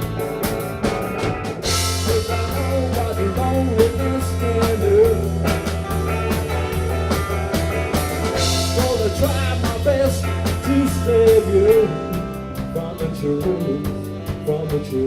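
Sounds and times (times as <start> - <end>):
drum beat: 0.0 - 14.6
bass guitar: 0.0 - 15.0
bending guitar lead melody: 0.0 - 15.0.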